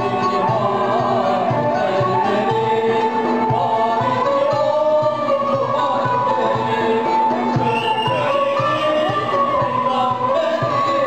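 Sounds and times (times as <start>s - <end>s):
man singing through amplification: 0.0s - 11.0s
zither and violin ensemble: 0.0s - 11.0s.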